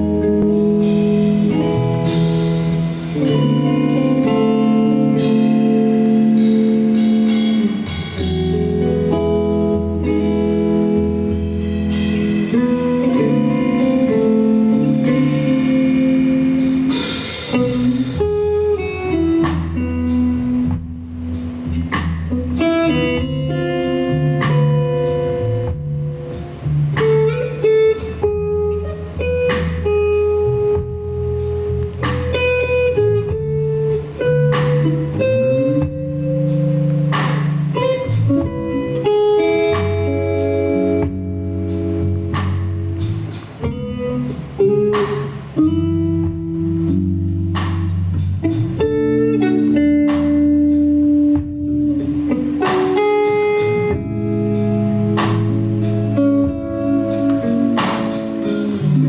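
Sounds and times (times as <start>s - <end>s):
guitars playing plucked melody: 0.0s - 59.0s.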